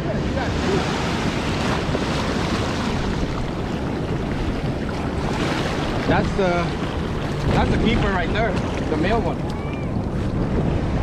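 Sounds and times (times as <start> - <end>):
ocean surf: 0.0 - 11.0
wind buffeting microphone: 0.0 - 11.0.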